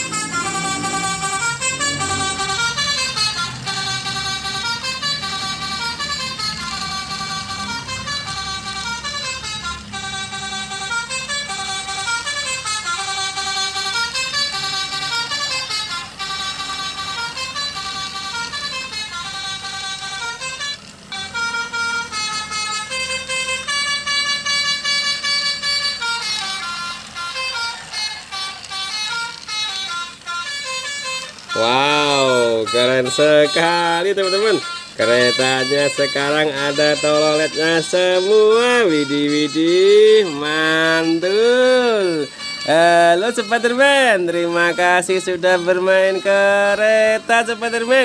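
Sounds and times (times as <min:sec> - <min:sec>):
bus horn playing a melody: 0:00.0 - 0:48.0.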